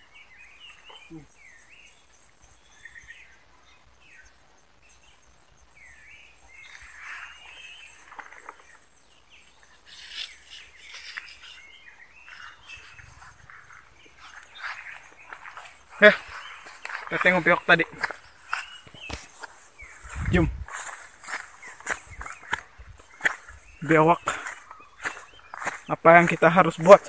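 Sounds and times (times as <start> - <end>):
birds chirping: 0.0 - 27.0
insects droning: 0.0 - 27.0.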